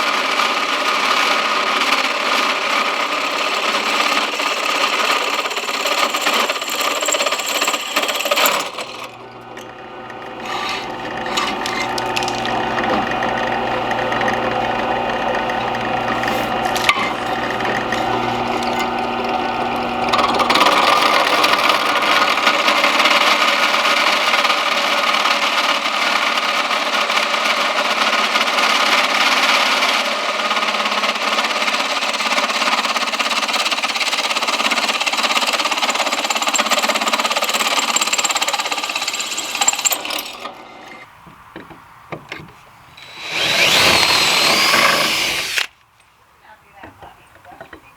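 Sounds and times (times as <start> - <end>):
power drill boring into wood: 0.0 - 41.1, 43.0 - 45.7.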